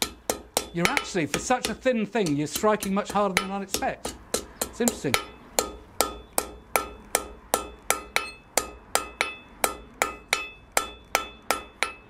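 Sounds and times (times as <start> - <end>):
hammer striking hot metal on anvil: 0.0 - 12.0.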